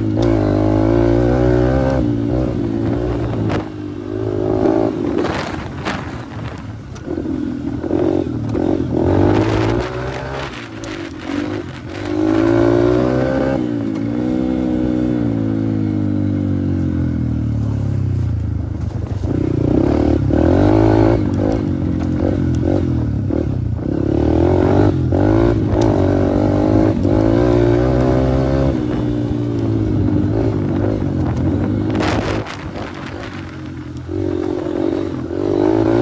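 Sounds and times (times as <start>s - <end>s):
dirt bike engine: 0.0s - 36.0s.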